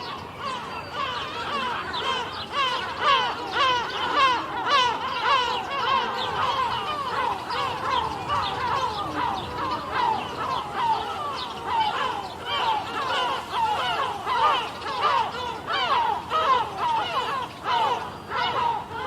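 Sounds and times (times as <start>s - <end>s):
seagulls squawking: 0.0s - 19.0s.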